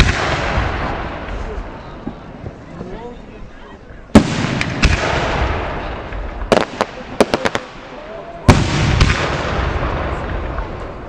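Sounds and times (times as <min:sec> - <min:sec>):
sharp firework cracks: 0:00.0 - 0:02.3, 0:04.1 - 0:11.0
heavy firework bangs: 0:00.0 - 0:02.6, 0:04.1 - 0:11.0.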